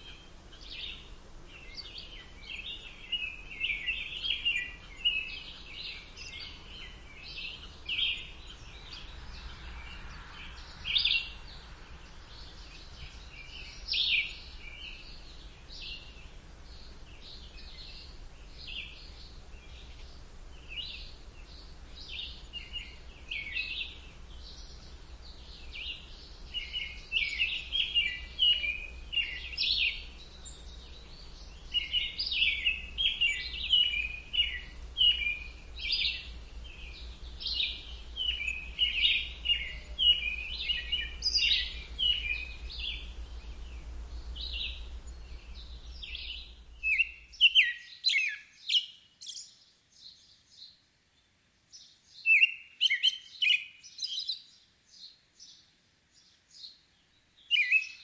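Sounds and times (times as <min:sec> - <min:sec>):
faint low background hum: 0:00.0 - 0:58.0
songbirds chirping and trilling: 0:00.0 - 0:58.0.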